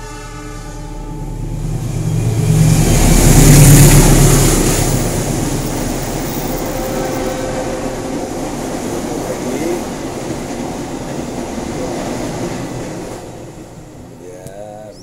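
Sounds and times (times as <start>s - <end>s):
vehicle passing with rumble and hiss: 1.0s - 15.0s.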